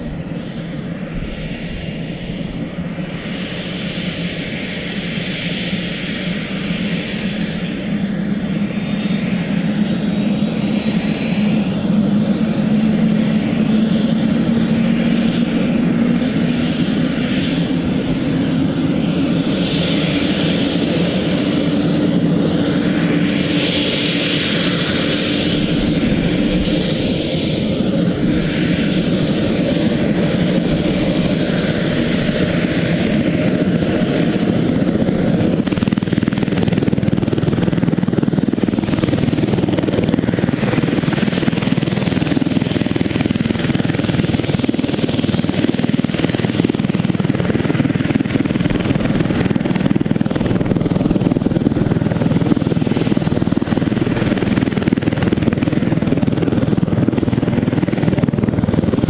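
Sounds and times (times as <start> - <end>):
helicopter engines and rotors: 0.0 - 59.0
turbine whine: 0.0 - 59.0.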